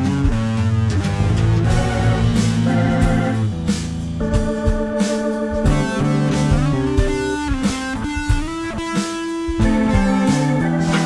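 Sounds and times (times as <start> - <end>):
guitar playing held notes: 0.0 - 11.0
drum hits: 0.1 - 11.0.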